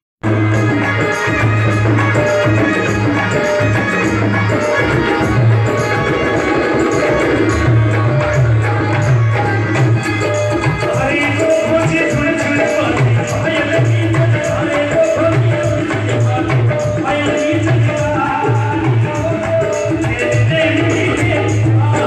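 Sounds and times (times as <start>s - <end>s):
hand drum rhythm: 0.2s - 22.0s.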